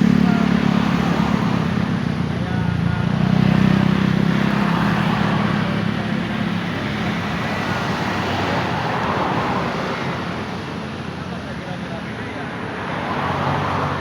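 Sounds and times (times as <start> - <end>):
passing vehicle engine drone: 0.0 - 14.0.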